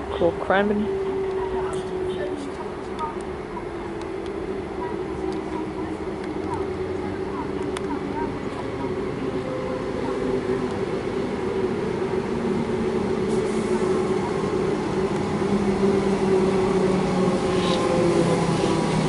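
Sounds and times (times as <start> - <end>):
electric train equipment humming: 0.0 - 19.0.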